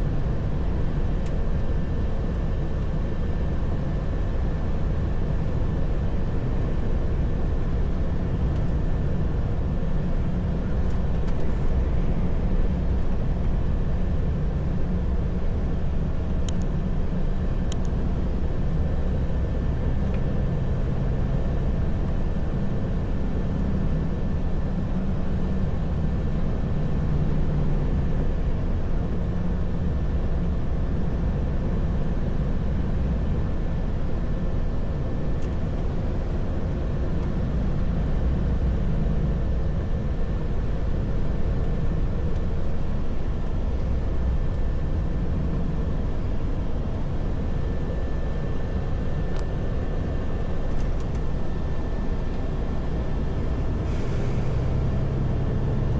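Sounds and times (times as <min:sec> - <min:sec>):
thin steady whine: 0:00.0 - 0:55.9
truck engine and road drone: 0:00.0 - 0:55.9.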